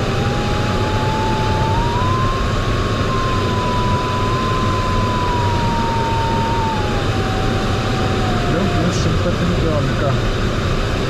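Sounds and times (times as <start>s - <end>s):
variometer tone: 0.0s - 10.3s.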